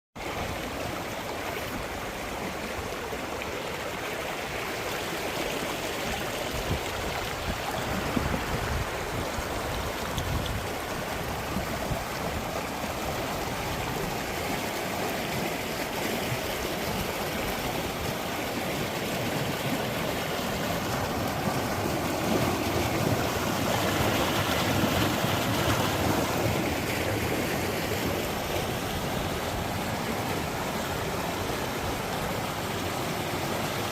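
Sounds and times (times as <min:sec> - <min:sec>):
stream water rushing: 0:00.2 - 0:33.9.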